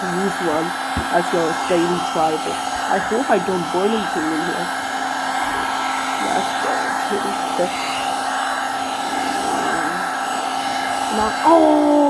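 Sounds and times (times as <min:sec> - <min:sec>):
hot-air tool blowing: 0:00.0 - 0:12.0.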